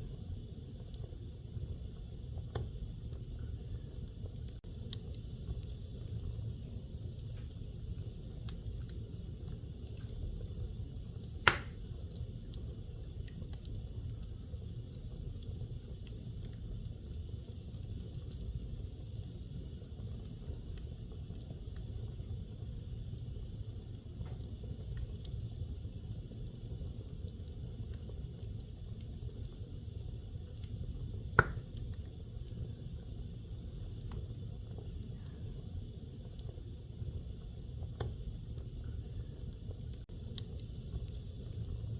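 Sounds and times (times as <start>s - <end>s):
fire crackling and hissing: 0.0s - 41.9s
fire low rumble: 0.0s - 41.9s
wood fire popping: 0.0s - 41.9s.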